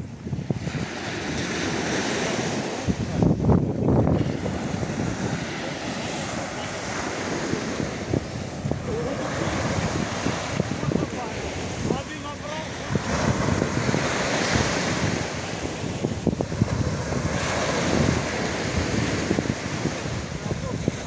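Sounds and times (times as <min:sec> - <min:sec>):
small waves breaking on beach: 0:00.0 - 0:21.0
wind rumbling on microphone: 0:00.0 - 0:21.0.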